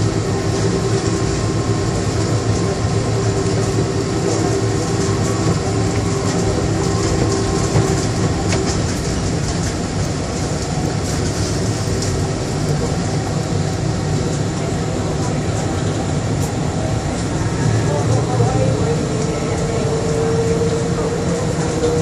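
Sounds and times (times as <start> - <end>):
tyres rumbling on guideway: 0.0 - 22.0.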